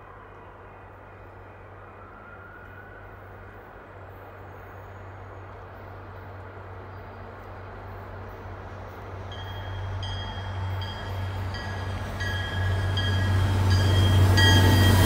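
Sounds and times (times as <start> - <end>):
distant diesel train rumbling: 0.0 - 15.0.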